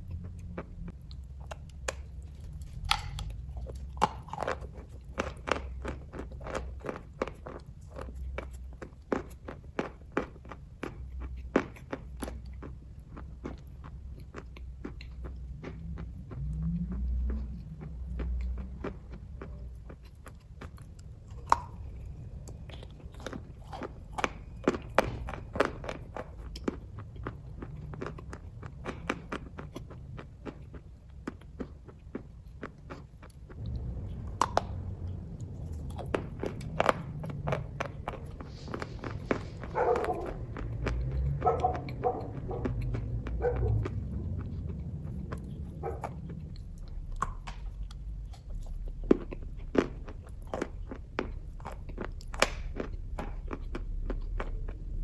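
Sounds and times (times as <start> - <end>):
low rumble: 0.0 - 9.0, 12.0 - 55.0
low steady hum: 0.0 - 55.0
wet mouth chewing clicks: 0.0 - 55.0.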